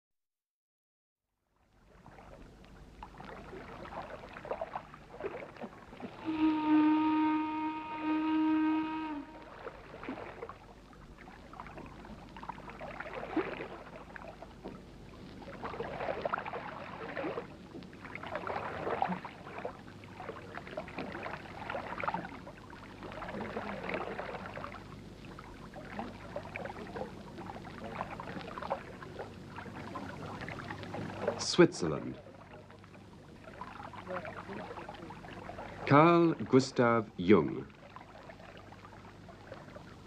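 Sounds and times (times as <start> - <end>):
water lapping and swishing: 1.6 - 40.0.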